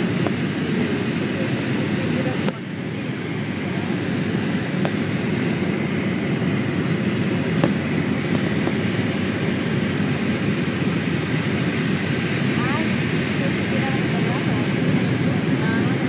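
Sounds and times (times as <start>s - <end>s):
airplane cabin engine rush: 0.0s - 16.0s.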